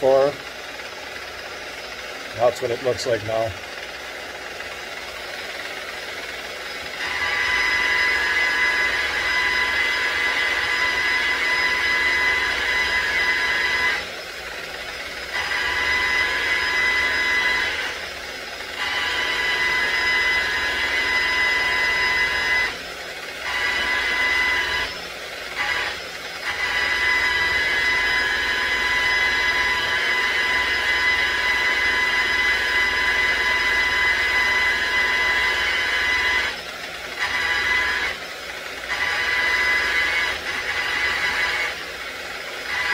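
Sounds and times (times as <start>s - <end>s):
buffing wheel whining: 0.0s - 42.9s.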